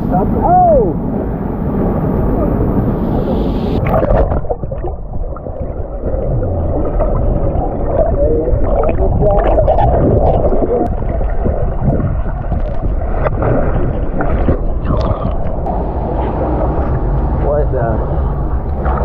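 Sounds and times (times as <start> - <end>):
underwater rushing creek water: 0.0 - 19.0
bubbles churning: 1.7 - 17.4.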